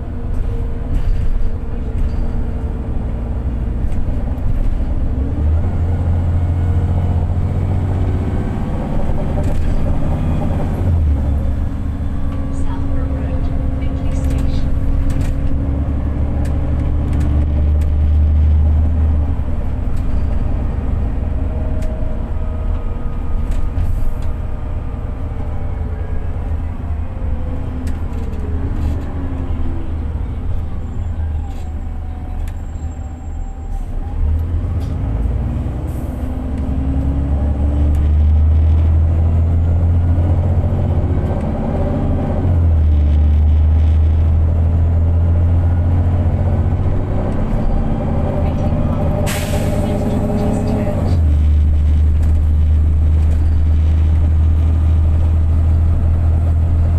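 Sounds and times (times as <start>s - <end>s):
bus engine low rumble: 0.0s - 56.9s.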